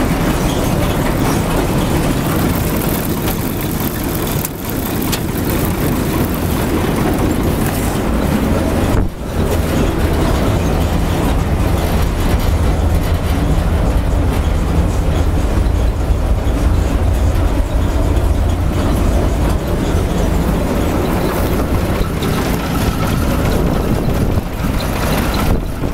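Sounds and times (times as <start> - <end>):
combine harvester rumbling: 0.0 - 25.9
machinery rattle: 0.0 - 25.9.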